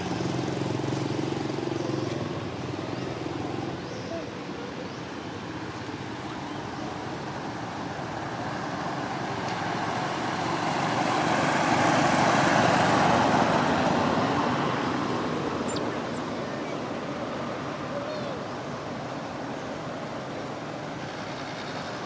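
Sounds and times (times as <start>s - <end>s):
road vehicle passing by: 0.0s - 22.0s.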